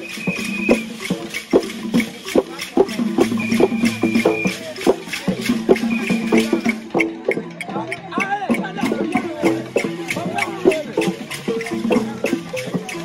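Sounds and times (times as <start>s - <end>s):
rattles shaking: 0.0s - 8.0s, 8.8s - 13.0s
wooden xylophone notes: 0.0s - 13.0s.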